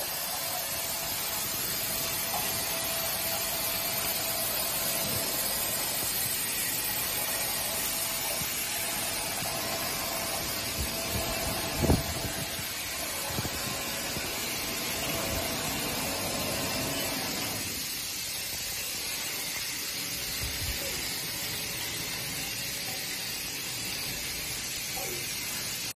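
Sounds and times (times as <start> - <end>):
bottling machinery hissing: 0.0 - 26.0.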